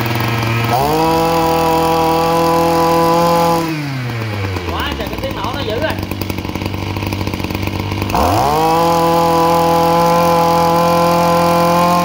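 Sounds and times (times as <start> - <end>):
brush cutter engine revving: 0.0 - 12.0.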